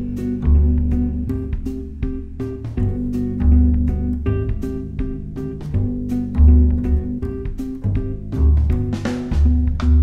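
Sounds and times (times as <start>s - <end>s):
bass line: 0.0s - 10.0s
plucked instrumental music: 0.0s - 10.0s.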